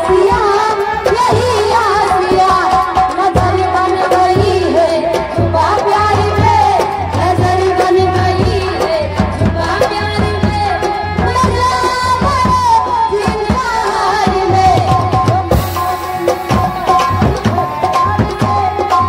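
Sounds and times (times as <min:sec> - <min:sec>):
quick hand-drum rhythm: 0:00.0 - 0:19.0.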